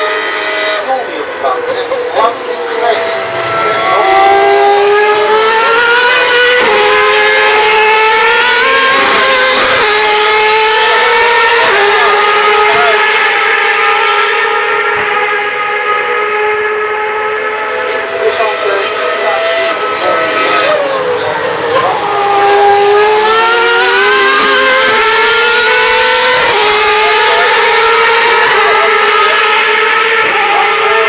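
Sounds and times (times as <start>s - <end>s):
race car engines at high revs: 0.0s - 31.0s.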